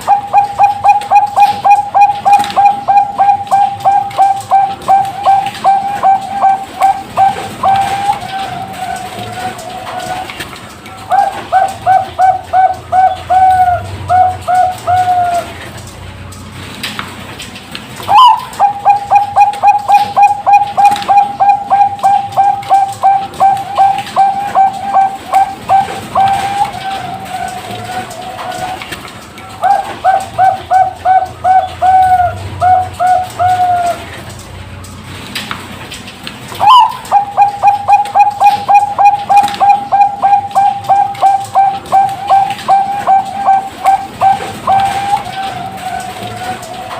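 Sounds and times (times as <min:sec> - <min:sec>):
dove cooing: 0:00.0 - 0:15.9, 0:18.0 - 0:34.4, 0:36.5 - 0:46.9.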